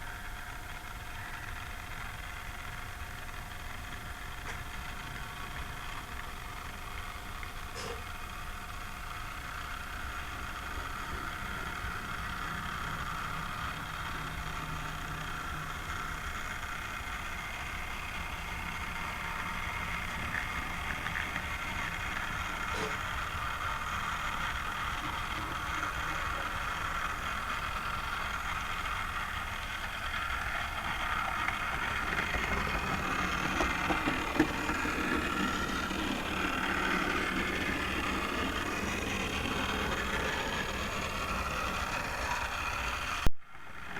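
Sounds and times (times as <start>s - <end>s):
model train motor whirring: 0.0s - 43.9s
wheels rolling on track: 0.0s - 43.9s.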